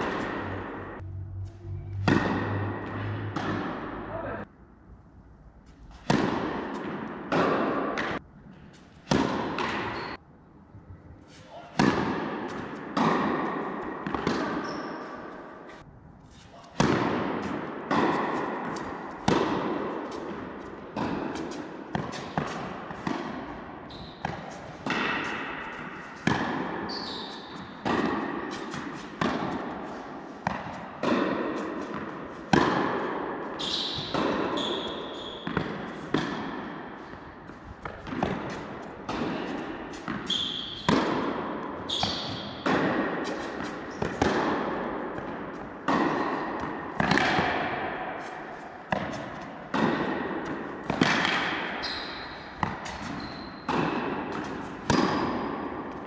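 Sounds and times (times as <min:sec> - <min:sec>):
tennis ball hits and bounces: 0:00.0 - 0:04.4, 0:05.8 - 0:10.2, 0:11.5 - 0:15.8, 0:16.4 - 0:56.0.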